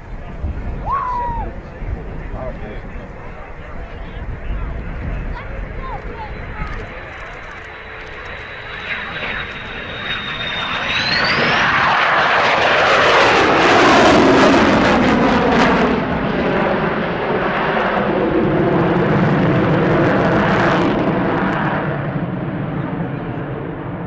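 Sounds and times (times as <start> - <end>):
aircraft passing low: 0.0 - 24.0.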